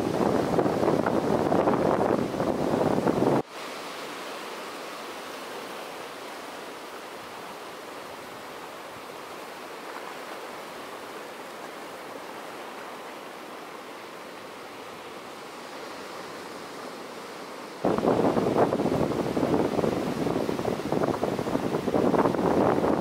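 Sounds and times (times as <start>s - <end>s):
rushing water: 0.0s - 23.0s.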